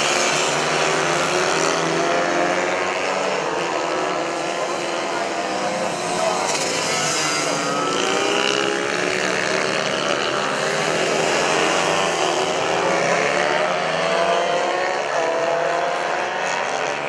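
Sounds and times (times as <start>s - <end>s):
mini bike engines revving: 0.0s - 17.0s.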